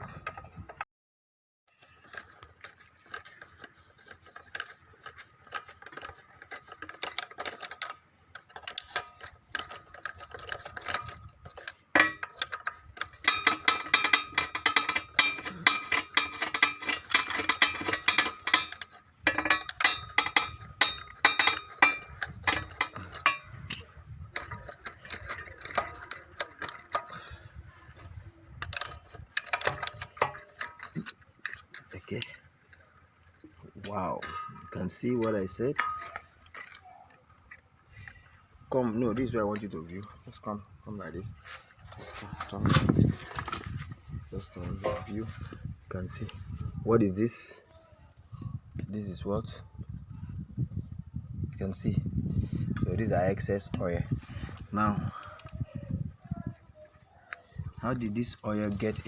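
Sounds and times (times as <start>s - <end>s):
metal tools clinking and scraping: 0.0s - 0.8s, 1.7s - 50.9s, 51.6s - 59.0s.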